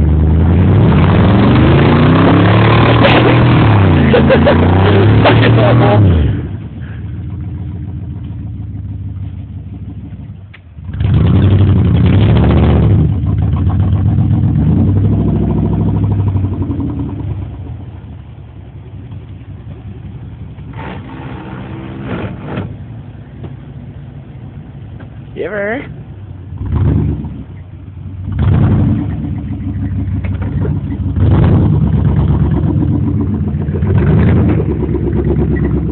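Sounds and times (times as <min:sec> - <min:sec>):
truck engine revving: 0:00.0 - 0:18.3, 0:19.7 - 0:23.7, 0:25.8 - 0:35.9.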